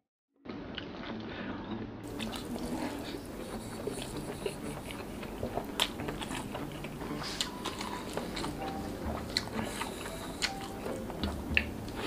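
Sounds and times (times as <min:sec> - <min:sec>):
wet chewing and mouth clicks: 0:02.0 - 0:12.0.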